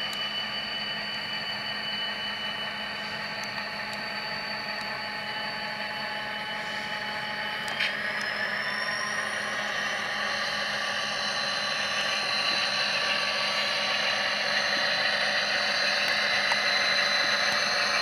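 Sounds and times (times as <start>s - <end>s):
diesel engine sound from small speaker: 0.0s - 18.0s.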